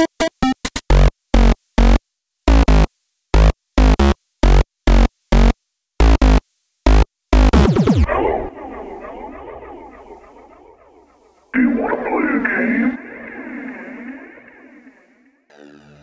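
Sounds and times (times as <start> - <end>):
stuttering electronic music: 0.4 - 16.0.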